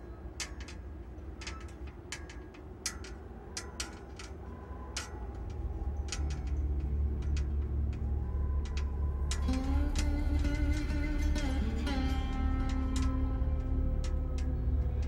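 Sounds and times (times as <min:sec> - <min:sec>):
low electrical hum: 0:00.0 - 0:15.0
sharp ticking clicks: 0:00.2 - 0:15.0.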